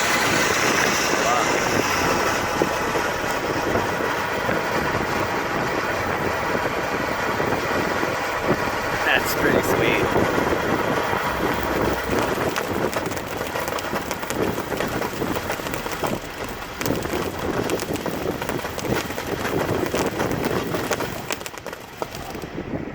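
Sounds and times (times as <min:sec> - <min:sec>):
firework fountain hissing: 0:00.0 - 0:22.6
firework crackles: 0:00.0 - 0:22.8.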